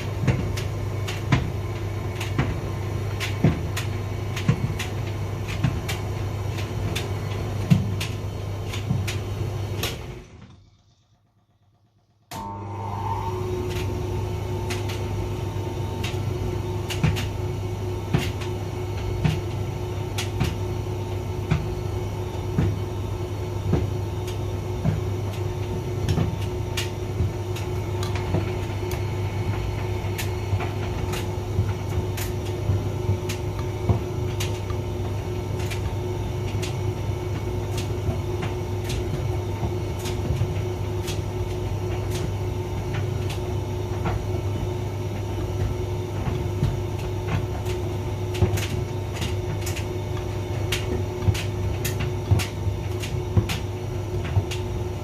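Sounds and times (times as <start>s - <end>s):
tumble dryer humming: 0.0s - 55.0s.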